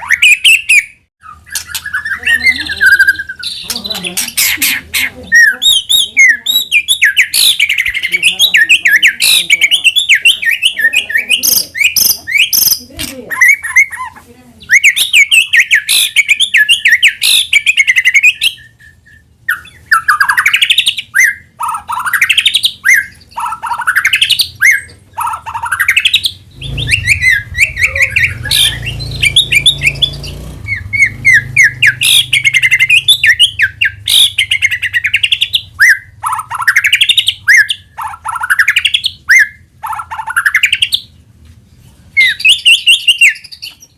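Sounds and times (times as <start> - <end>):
songbird singing trills: 0.0 - 41.1, 42.2 - 43.9.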